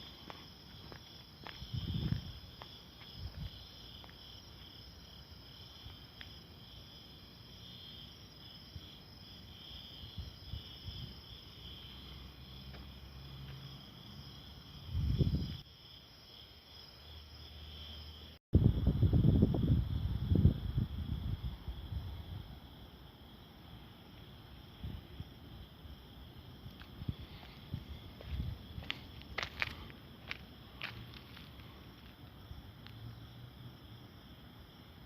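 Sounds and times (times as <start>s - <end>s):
insect chorus chirring: 0.0s - 35.0s.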